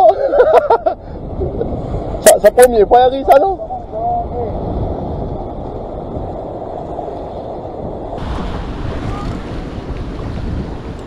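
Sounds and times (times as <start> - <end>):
wind buffeting microphone: 0.0 - 11.0
surf breaking over rocks: 1.3 - 11.0.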